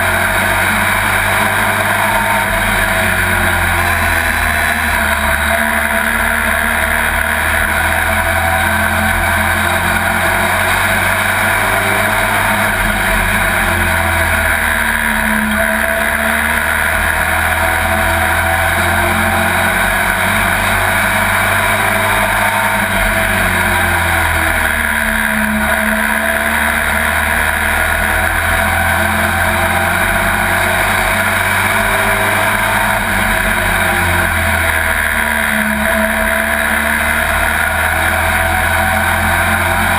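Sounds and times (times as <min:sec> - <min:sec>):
truck engine at full load: 0:00.0 - 0:39.9.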